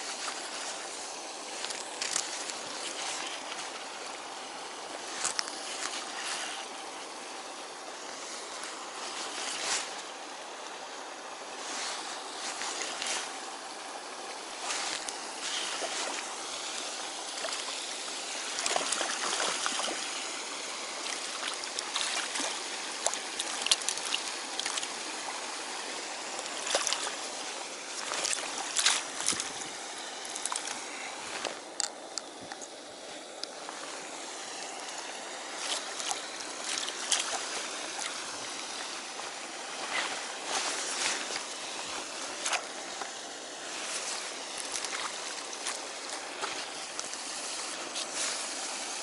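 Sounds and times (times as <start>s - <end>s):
water running: 0.0s - 31.6s, 33.5s - 49.0s
water splashes: 0.0s - 49.0s.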